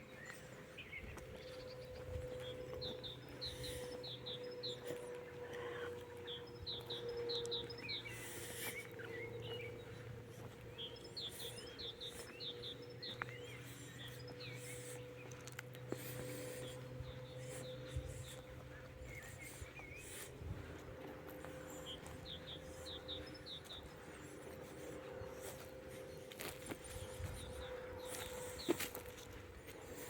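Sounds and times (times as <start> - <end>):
songbirds singing: 0.0 - 30.0
steady low hum: 0.0 - 30.0.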